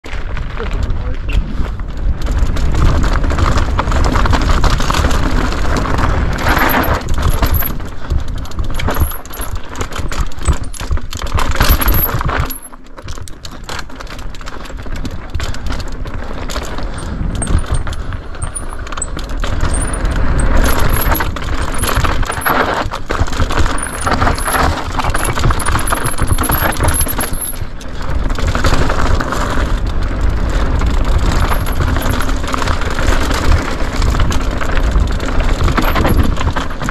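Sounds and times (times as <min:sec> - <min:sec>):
tyre noise on dirt: 0:00.0 - 0:36.9
wind noise: 0:00.1 - 0:12.7, 0:14.6 - 0:36.9
bike chain and parts clattering: 0:00.1 - 0:36.9.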